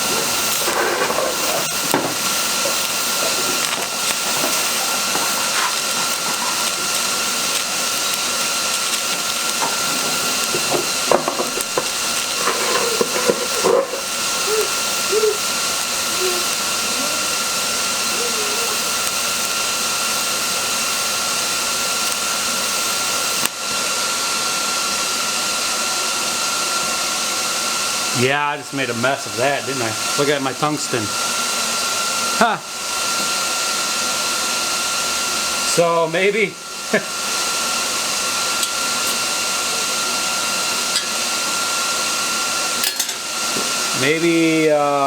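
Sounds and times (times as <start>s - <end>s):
welding arc hissing: 0.0s - 45.0s.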